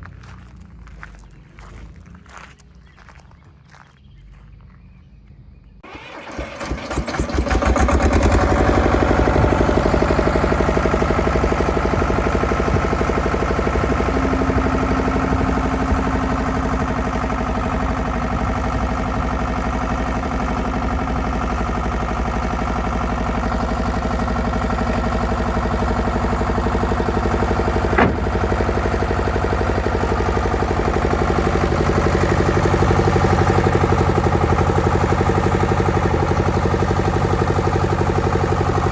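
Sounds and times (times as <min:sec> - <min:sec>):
diesel engine cranking and idling: 0:00.0 - 0:38.9.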